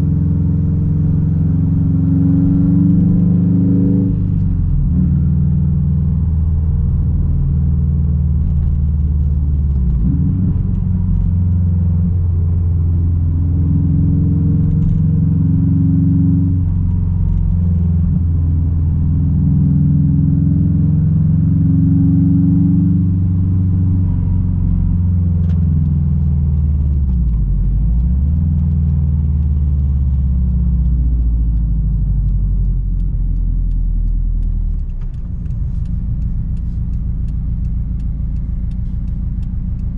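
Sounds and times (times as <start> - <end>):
loud car exhaust drone: 0.0 - 39.9.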